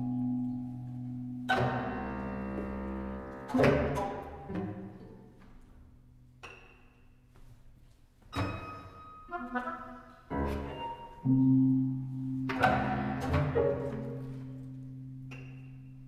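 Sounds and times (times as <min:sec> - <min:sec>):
sparse chamber ensemble music: 0:00.0 - 0:05.7, 0:08.3 - 0:16.0.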